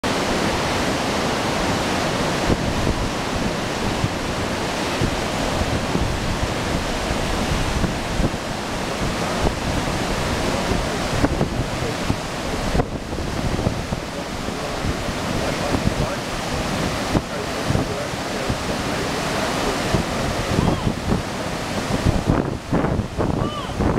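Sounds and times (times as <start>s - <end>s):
fast river water rushing: 0.0s - 23.9s
wind buffeting microphone: 0.0s - 23.9s.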